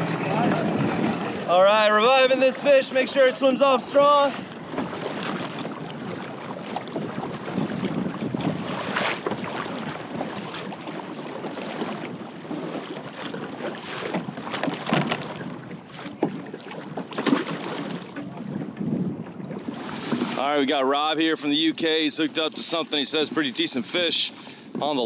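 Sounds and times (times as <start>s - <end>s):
wind buffeting microphone: 0.0s - 21.6s
water splashing against kayak: 0.0s - 25.0s.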